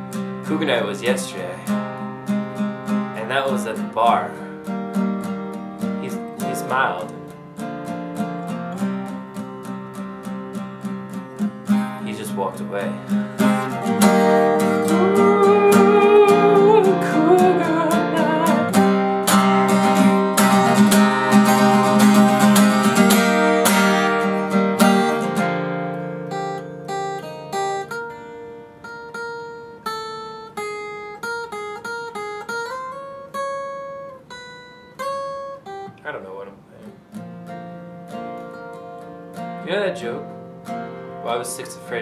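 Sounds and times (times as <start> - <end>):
acoustic guitar picked notes: 0.0 - 42.0
acoustic guitar strumming: 0.0 - 42.0.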